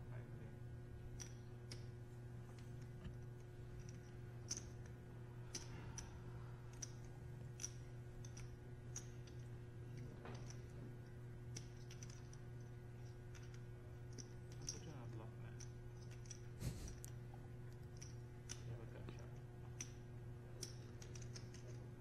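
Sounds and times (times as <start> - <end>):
steady low hum: 0.0 - 22.0
clay poker chips clicking: 1.1 - 1.9, 2.5 - 22.0.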